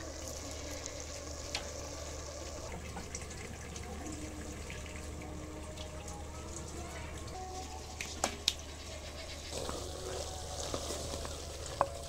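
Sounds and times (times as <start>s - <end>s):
burning wood crackling: 0.0s - 12.0s
curry simmering and sizzling: 0.0s - 12.0s.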